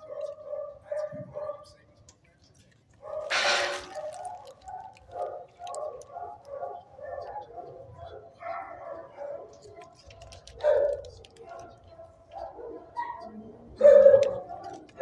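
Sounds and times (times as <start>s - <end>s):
dogs barking and yelping: 0.0s - 1.6s, 3.0s - 15.0s.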